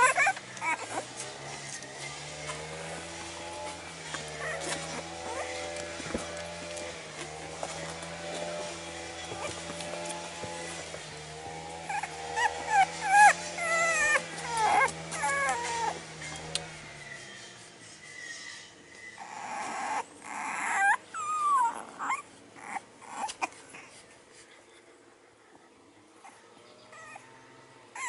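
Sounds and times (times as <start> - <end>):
puppies whining and yelping: 0.0 - 7.0, 7.6 - 16.5, 17.2 - 24.0, 26.2 - 28.0.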